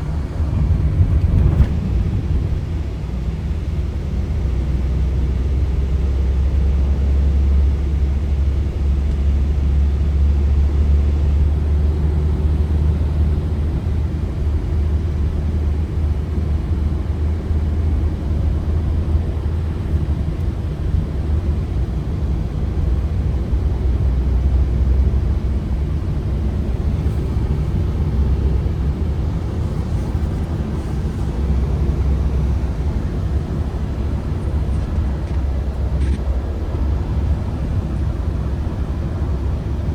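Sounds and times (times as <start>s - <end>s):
van engine and road noise rumble: 0.0s - 39.9s.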